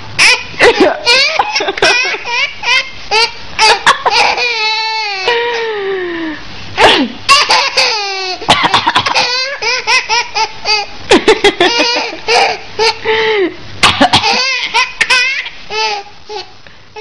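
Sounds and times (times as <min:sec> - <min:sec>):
baby laughing: 0:00.2 - 0:05.6, 0:07.3 - 0:13.1, 0:13.8 - 0:17.0.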